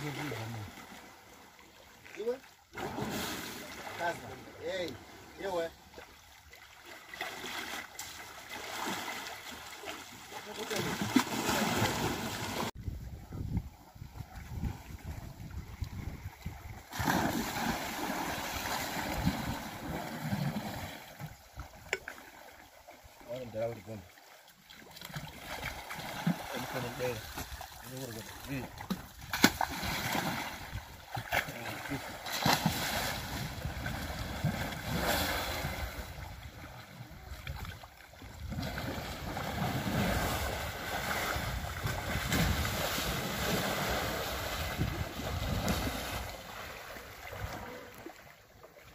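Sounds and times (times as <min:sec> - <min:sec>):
water splashing and churning: 0:00.0 - 0:48.9.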